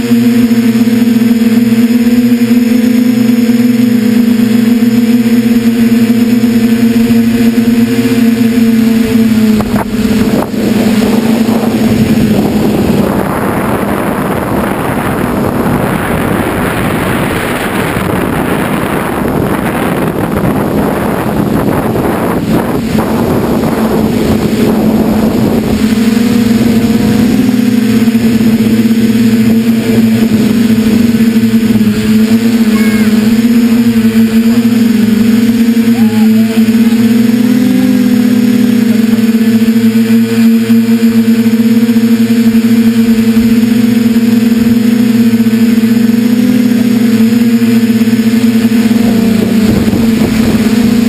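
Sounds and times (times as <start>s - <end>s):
drone motors humming: 0.0s - 51.0s
wind on microphone: 0.0s - 51.0s.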